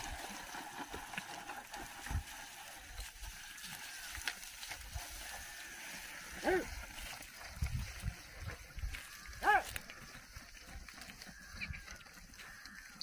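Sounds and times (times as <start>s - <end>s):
plough scraping through soil: 0.0s - 13.0s.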